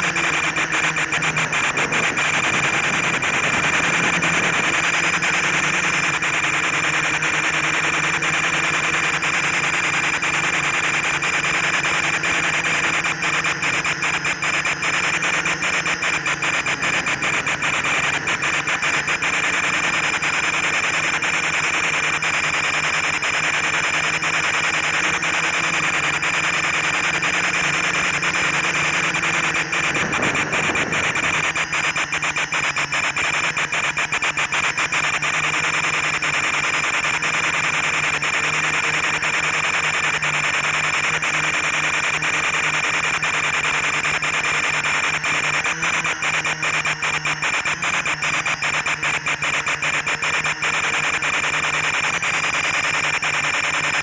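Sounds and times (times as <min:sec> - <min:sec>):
drone motors whining: 0:00.0 - 0:54.0
interference crackles: 0:00.0 - 0:54.0.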